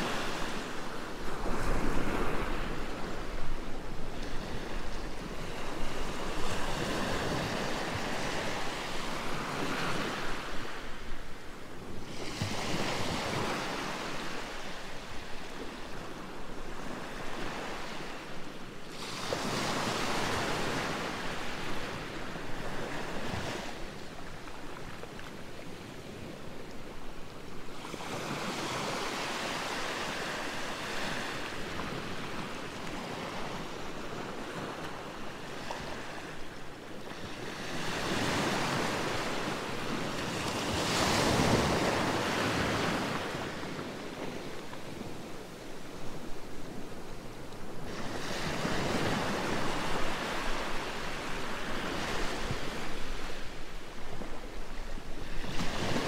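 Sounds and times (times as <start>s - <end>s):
sea waves washing ashore: 0.0s - 56.0s.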